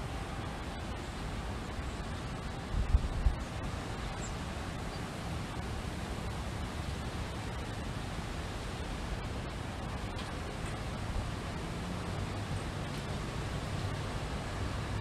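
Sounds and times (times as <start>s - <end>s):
steady wind: 0.0s - 15.0s.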